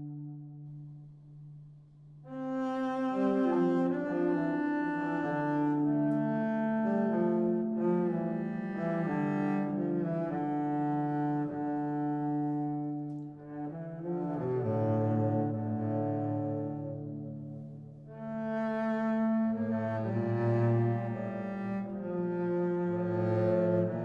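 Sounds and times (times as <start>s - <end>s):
slow bowed string music: 0.0s - 24.0s.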